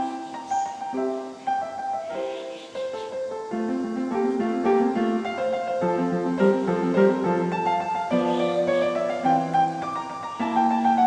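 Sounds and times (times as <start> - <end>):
light keyboard melody: 0.0 - 11.0.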